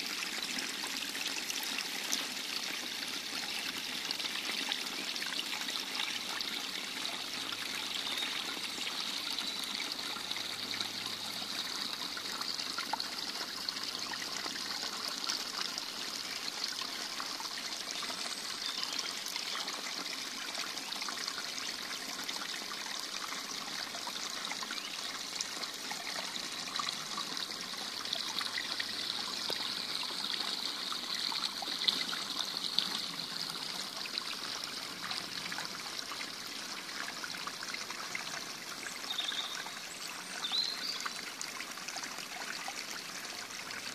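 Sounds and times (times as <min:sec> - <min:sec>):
running water rushing: 0:00.0 - 0:43.9.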